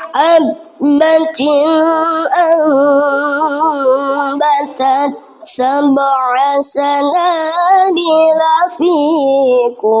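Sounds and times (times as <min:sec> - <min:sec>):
child chanting recitation: 0:00.0 - 0:10.0.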